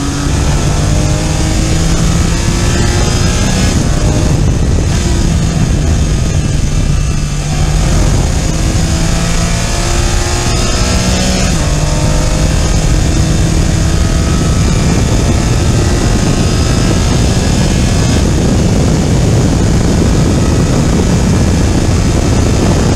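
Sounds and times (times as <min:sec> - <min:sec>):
car engine revving at full throttle: 0:00.0 - 0:22.9
wind and tyre noise: 0:00.0 - 0:22.9.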